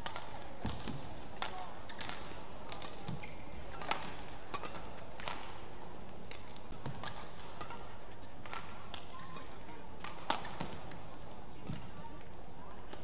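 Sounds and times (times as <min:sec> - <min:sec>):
arena hall hum: 0:00.0 - 0:13.0.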